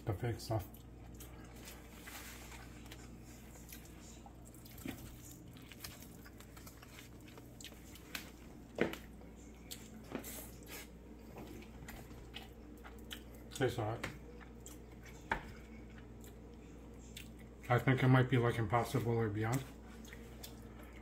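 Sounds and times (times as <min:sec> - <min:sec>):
steady low hum: 0:00.0 - 0:21.0
chewing: 0:00.6 - 0:17.9, 0:18.9 - 0:21.0.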